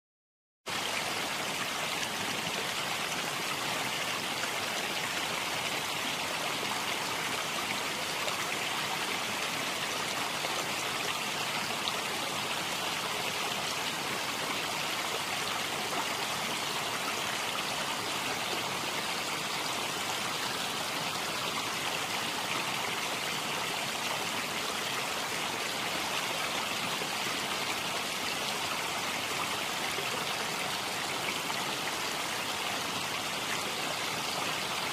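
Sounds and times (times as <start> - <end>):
flowing water rushing: 0.7 - 34.9.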